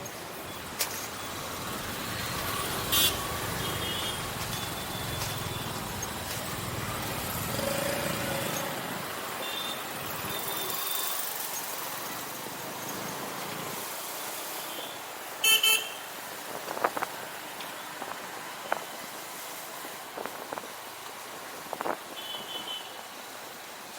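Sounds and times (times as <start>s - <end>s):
road noise: 0.0s - 23.9s.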